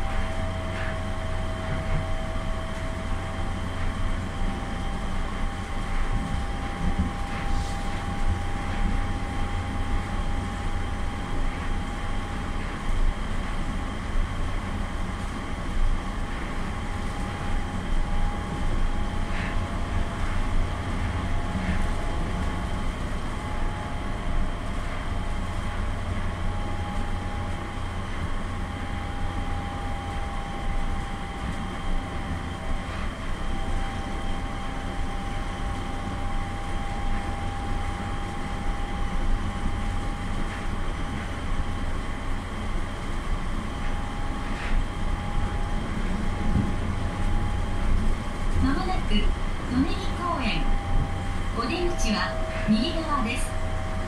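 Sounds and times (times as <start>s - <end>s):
mid-pitched whine: 0.0s - 54.0s
train cabin low rumble: 0.0s - 54.0s.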